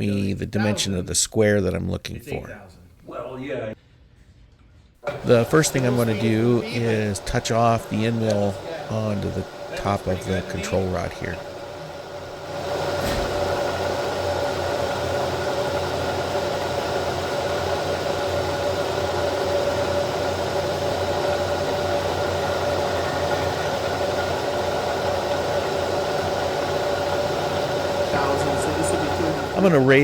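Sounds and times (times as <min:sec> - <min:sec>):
milling machine motor humming: 0:05.0 - 0:30.0.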